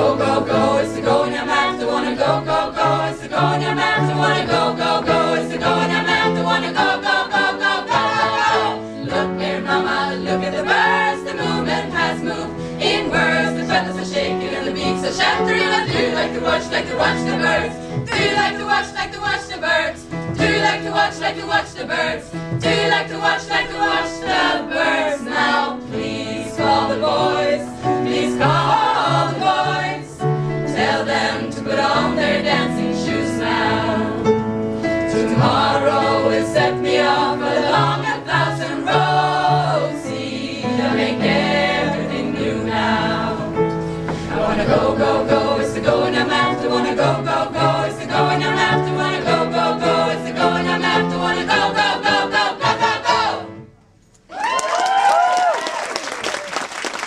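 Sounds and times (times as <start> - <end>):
choir singing: 0.0 - 53.7.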